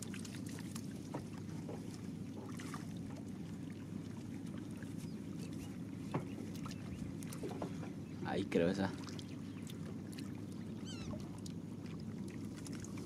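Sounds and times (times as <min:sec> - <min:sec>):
water rushing around boat hull: 0:00.0 - 0:13.0.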